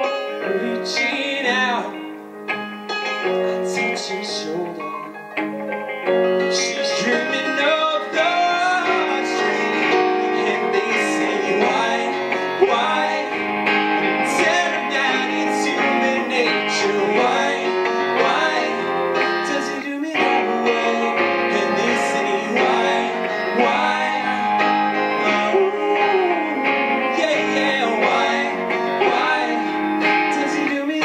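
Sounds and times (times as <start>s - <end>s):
electric guitar strummed: 0.0s - 31.0s
stage keyboard: 0.0s - 31.0s
man singing: 0.3s - 2.1s, 3.2s - 5.2s, 6.4s - 31.0s.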